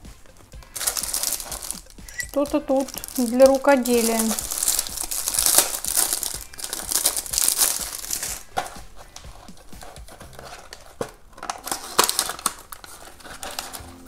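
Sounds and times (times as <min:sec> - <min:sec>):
cellophane crinkling and tearing: 0:00.7 - 0:14.0.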